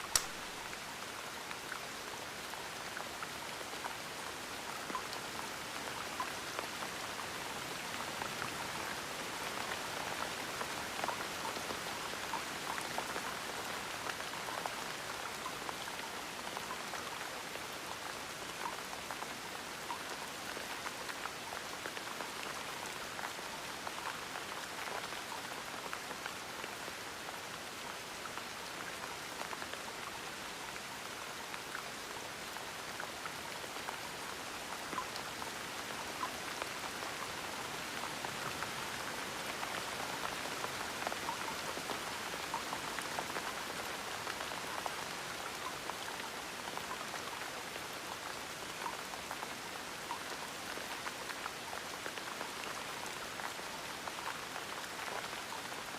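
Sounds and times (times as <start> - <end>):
gentle rain pattering: 0.0 - 55.9.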